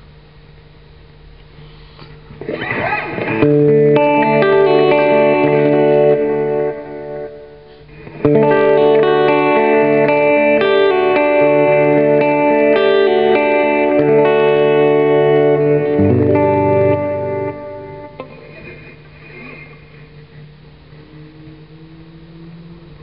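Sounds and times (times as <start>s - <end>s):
electric guitar with echoing delay: 2.2s - 23.0s.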